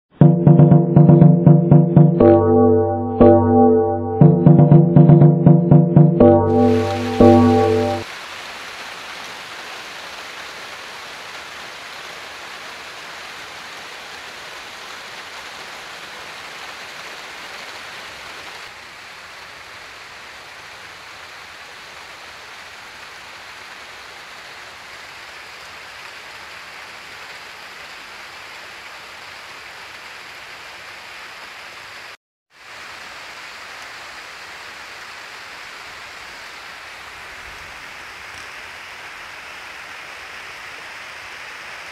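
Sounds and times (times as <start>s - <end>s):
steady outdoor hiss: 6.6s - 41.9s.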